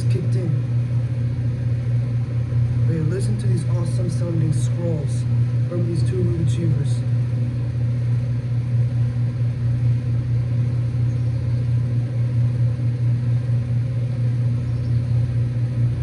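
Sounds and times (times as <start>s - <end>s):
compressors humming: 0.0s - 16.0s.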